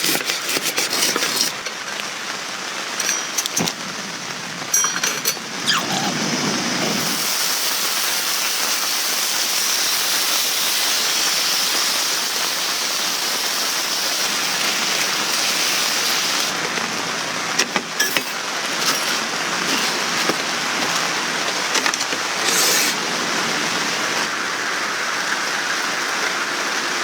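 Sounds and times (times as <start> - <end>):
light rain falling: 1.6 - 4.8, 5.4 - 27.0.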